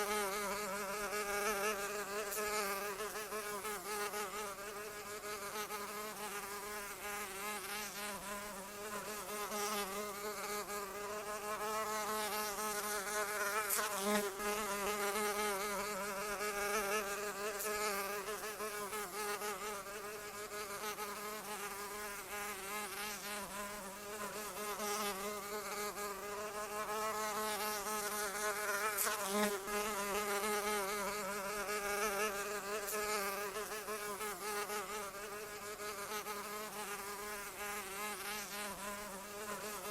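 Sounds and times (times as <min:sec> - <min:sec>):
flying insect buzzing: 0:00.0 - 0:39.9.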